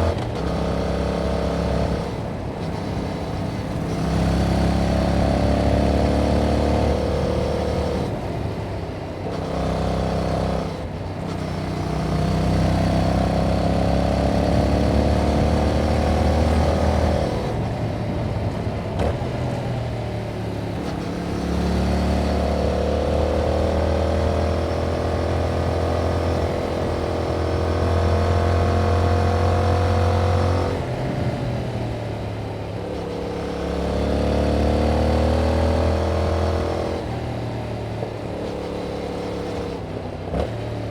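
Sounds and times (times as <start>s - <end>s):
motorcycle engine revving: 0.0s - 40.9s
wind and road noise: 0.0s - 40.9s.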